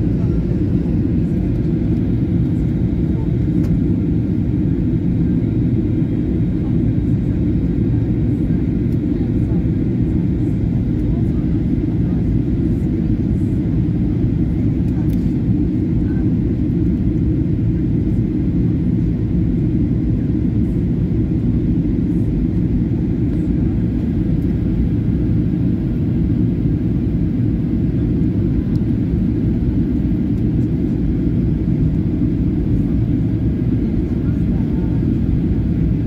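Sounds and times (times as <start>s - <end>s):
airliner cabin jet engine hum: 0.0s - 36.0s.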